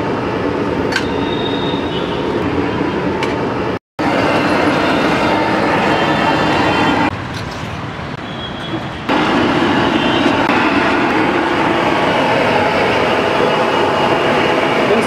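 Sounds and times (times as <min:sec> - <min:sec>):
busy road traffic: 0:00.0 - 0:15.0.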